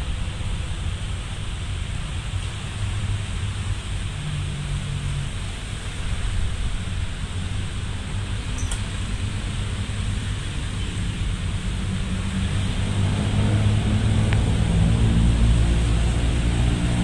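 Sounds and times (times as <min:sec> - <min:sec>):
diesel locomotive rumble: 0:00.0 - 0:17.0.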